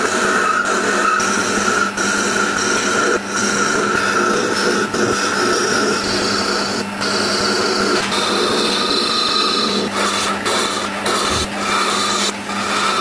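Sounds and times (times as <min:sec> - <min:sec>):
chisel scraping spinning wood: 0:00.0 - 0:13.0
wood lathe humming: 0:00.0 - 0:13.0.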